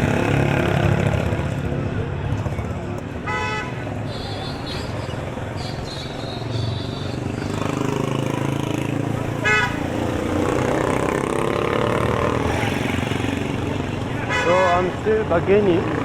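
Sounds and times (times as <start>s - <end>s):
crowd voices: 0.0s - 16.0s
motorbike and vehicle engines: 0.0s - 16.0s.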